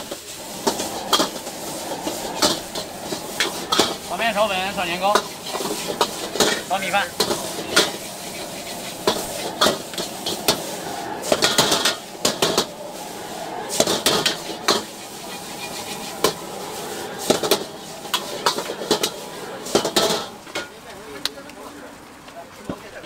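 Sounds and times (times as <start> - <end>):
metal ladle scraping a wok: 0.0 - 20.7
steady hiss: 0.0 - 22.4.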